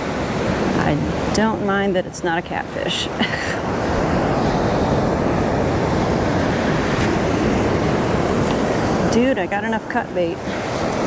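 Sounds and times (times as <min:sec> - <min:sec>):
ocean surf: 0:00.0 - 0:11.0
wind on microphone: 0:00.0 - 0:11.0.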